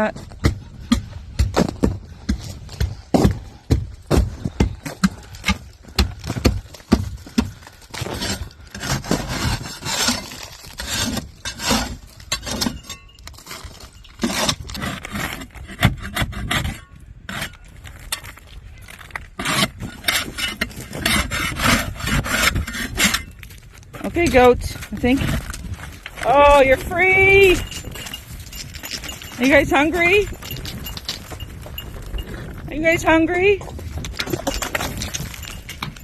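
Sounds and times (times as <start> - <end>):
ice pick chipping and scraping ice: 0.1 - 36.0.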